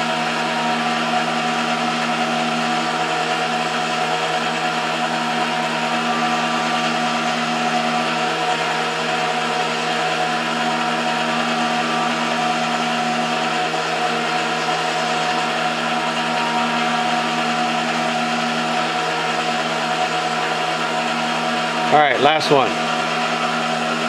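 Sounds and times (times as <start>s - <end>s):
lathe motor hum and whine: 0.0s - 24.0s.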